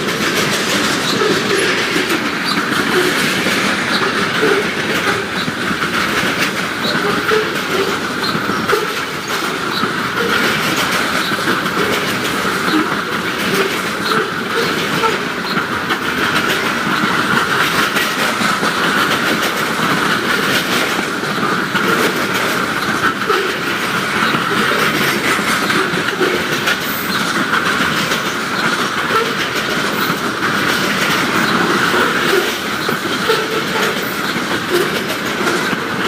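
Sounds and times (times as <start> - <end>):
freight train rolling past: 0.0 - 36.0.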